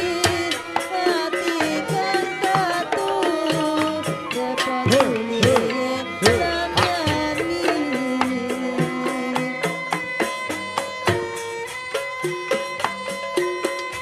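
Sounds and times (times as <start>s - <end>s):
hand drums with bending pitch: 0.0s - 14.0s.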